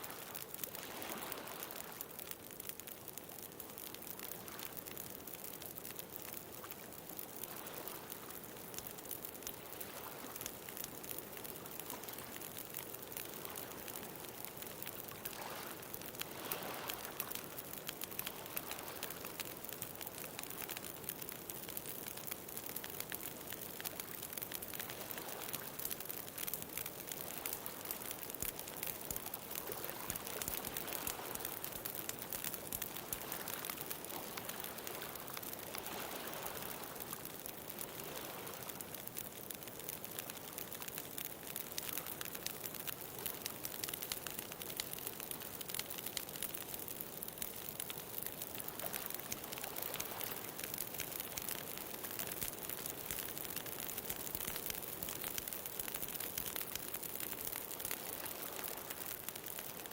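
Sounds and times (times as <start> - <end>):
bonfire crackling and popping: 0.0 - 59.9.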